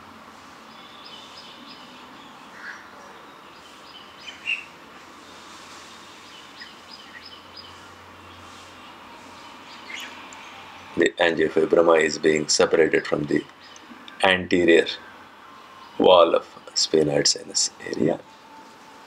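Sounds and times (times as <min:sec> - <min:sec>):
steady background hiss: 0:00.0 - 0:19.0
small birds chirping: 0:00.1 - 0:18.8.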